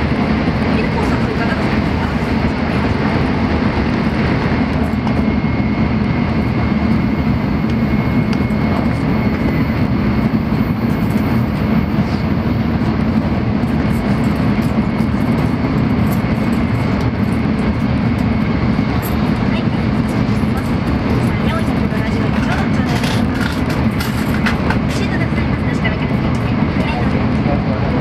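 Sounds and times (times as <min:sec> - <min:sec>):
train running noise inside car: 0:00.0 - 0:28.0.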